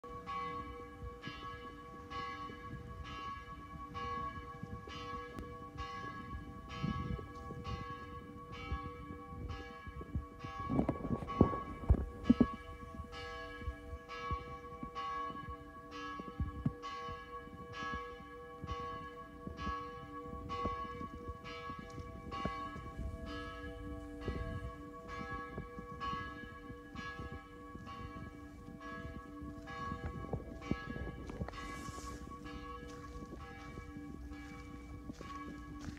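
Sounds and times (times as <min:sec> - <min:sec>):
church bell tolling: 0:00.0 - 0:35.9.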